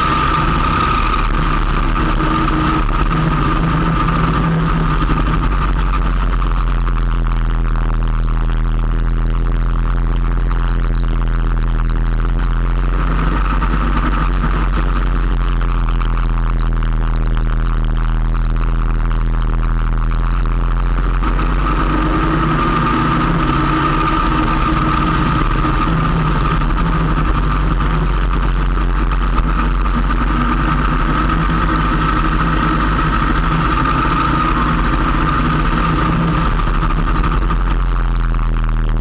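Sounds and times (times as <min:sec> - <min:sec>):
motorcycle engine droning: 0:00.0 - 0:39.0
road and wind noise: 0:00.0 - 0:39.0.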